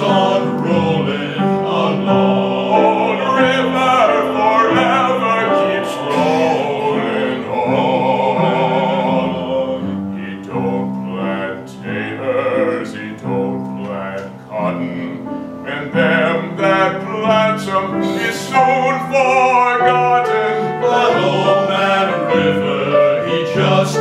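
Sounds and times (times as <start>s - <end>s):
male vocal quartet singing harmony: 0.0s - 24.0s.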